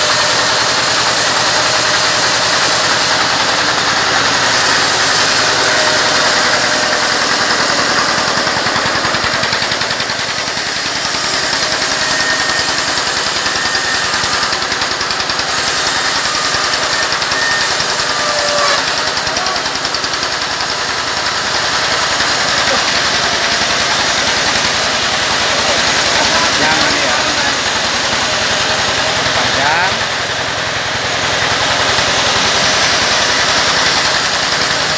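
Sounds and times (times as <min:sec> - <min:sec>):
band sawmill drone: 0:00.0 - 0:34.9.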